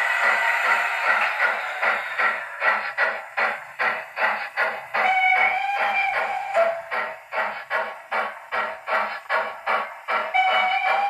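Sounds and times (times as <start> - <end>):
model steam locomotive chuffs: 0.0 - 11.0.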